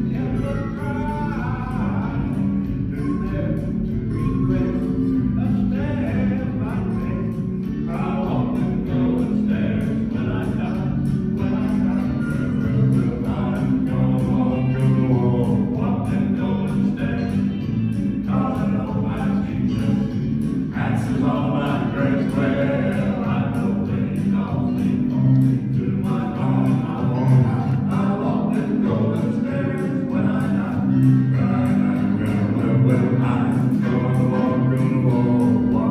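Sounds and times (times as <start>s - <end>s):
accompaniment with steady beat: 0.0s - 35.9s
male vocal quartet singing: 0.0s - 35.9s.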